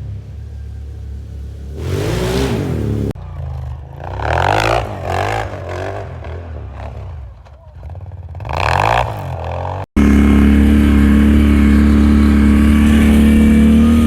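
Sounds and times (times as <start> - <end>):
atv engine idling and revving: 0.0 - 14.0.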